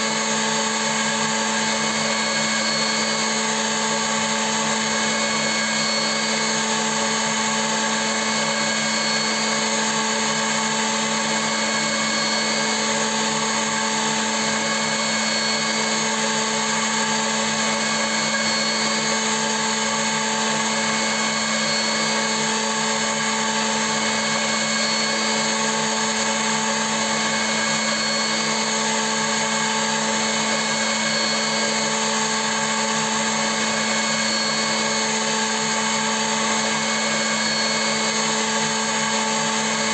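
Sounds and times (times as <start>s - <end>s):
milling machine motor hum: 0.0s - 39.9s.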